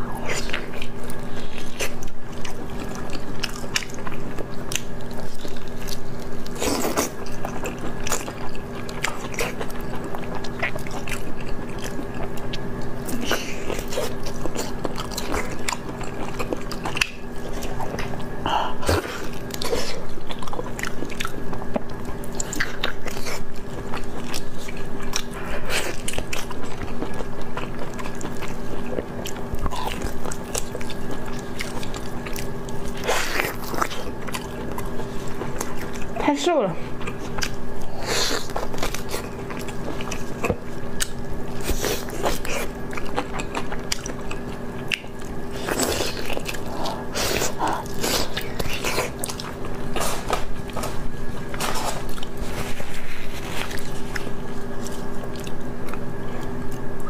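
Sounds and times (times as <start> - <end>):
person chewing with wet smacking: 0.0 - 57.0
steady low hum: 0.0 - 57.0.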